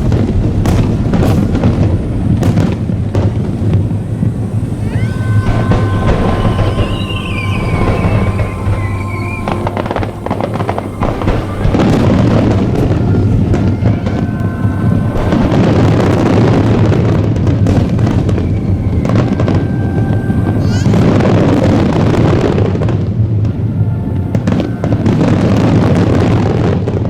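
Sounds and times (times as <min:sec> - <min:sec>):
fireworks bursting and crackling: 0:00.0 - 0:27.0
music playing: 0:03.4 - 0:27.0.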